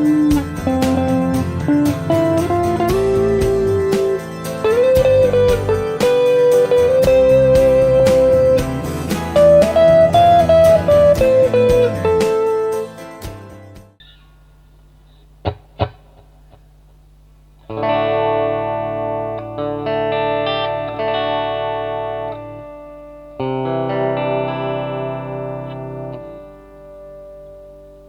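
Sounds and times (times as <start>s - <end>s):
muted electric guitar plucks: 0.0s - 14.3s, 15.4s - 16.7s, 17.6s - 28.0s
distorted electric guitar chords: 0.0s - 28.0s.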